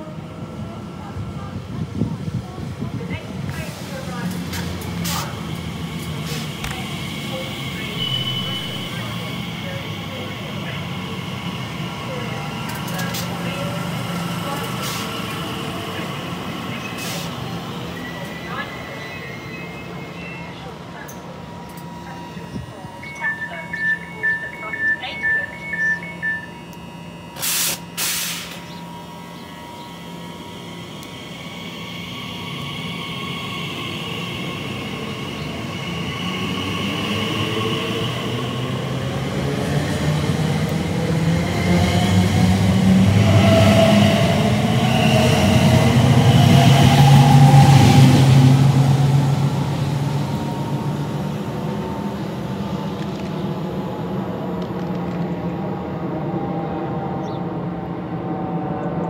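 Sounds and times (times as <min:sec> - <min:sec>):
electric train motors whining: 0:03.4 - 0:55.6.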